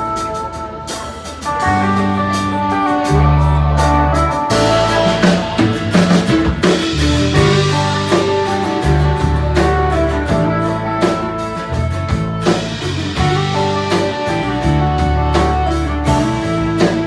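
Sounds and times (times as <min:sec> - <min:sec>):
acoustic and electric guitars: 0:00.0 - 0:17.0
drum kit: 0:00.0 - 0:17.0
low bass notes: 0:00.0 - 0:17.0.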